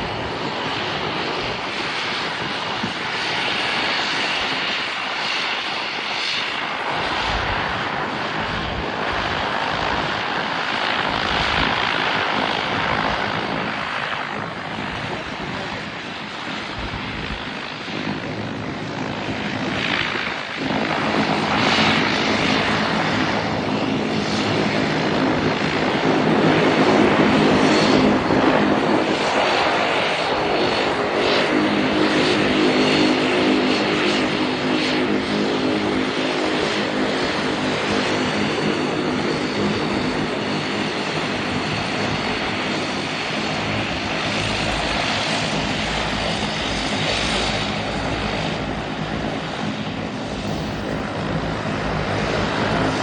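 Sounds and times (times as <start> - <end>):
airliner engines roaring: 0.0 - 53.0.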